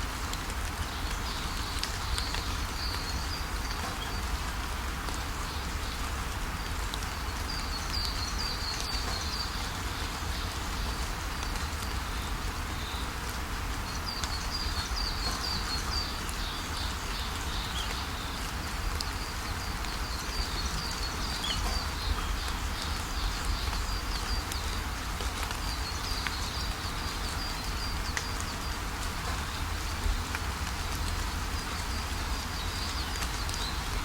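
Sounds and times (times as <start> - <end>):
steady rainfall: 0.0 - 34.0.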